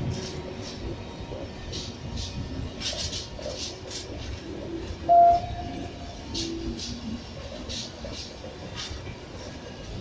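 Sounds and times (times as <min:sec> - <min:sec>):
train wheels clicking and rumbling: 0:00.0 - 0:10.0.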